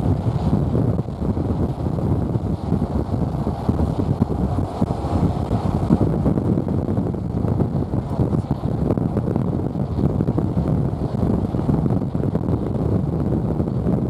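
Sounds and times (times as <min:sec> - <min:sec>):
car rumbling on road: 0:00.0 - 0:14.0
wind buffeting at car window: 0:00.0 - 0:14.0.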